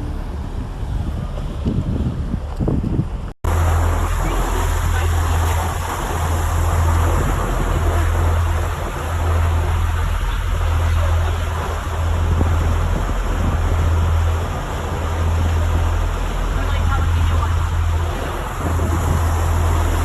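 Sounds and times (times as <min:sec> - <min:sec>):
motorboat engine drone: 0:00.0 - 0:20.0
wind buffeting microphone: 0:00.0 - 0:20.0.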